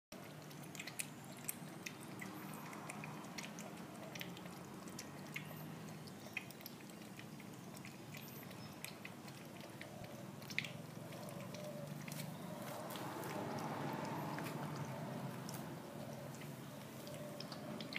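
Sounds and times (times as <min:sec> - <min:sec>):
puppy mouth clicks and smacks: 0:00.2 - 0:17.9.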